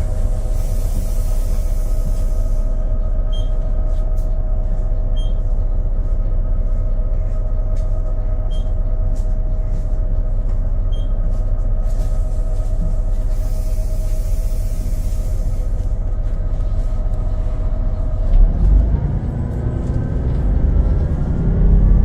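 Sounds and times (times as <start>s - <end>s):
bus diesel engine rumbling: 0.0s - 22.0s
constant engine whine: 0.0s - 22.0s.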